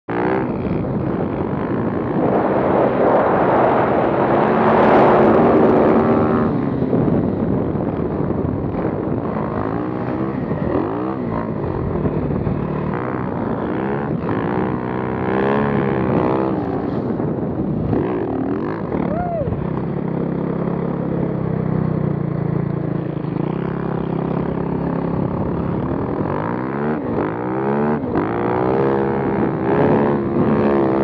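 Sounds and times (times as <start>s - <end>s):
motorcycle engine revving: 0.0s - 31.0s
wind rush on microphone: 0.1s - 31.0s.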